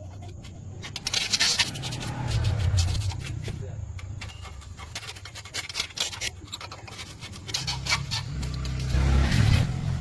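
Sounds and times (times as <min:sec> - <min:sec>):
rapid scratching and clicking: 0:00.0 - 0:10.0.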